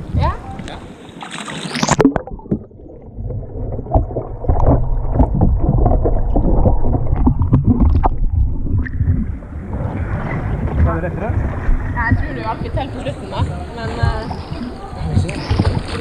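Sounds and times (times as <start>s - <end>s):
water splashing around kayak paddle: 0.6s - 16.0s
low muffled rumble: 1.9s - 16.0s.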